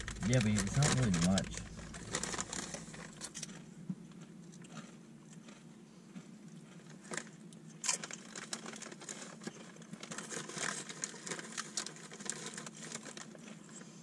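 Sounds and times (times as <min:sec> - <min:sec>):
chip bag crinkling: 0:00.0 - 0:05.6, 0:06.7 - 0:13.9
potato chips crunching: 0:00.0 - 0:13.9.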